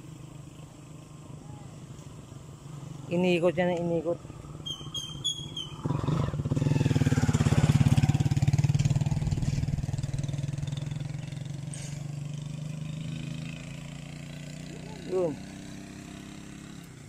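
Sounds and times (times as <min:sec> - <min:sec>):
motorcycle passing by: 0:00.0 - 0:17.0.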